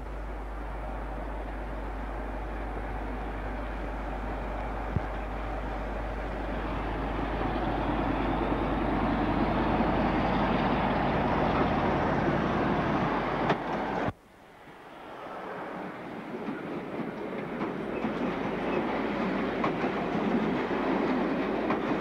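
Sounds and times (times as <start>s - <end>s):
diesel locomotive engine working hard: 0.0s - 22.0s.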